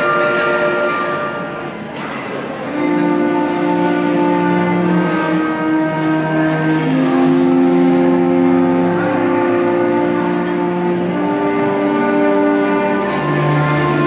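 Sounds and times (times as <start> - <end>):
wind ensemble playing slow chords: 0.0 - 14.0.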